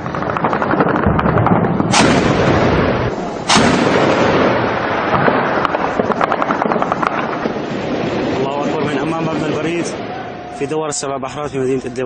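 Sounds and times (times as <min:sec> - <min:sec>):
loud gunshots: 0:00.0 - 0:10.4.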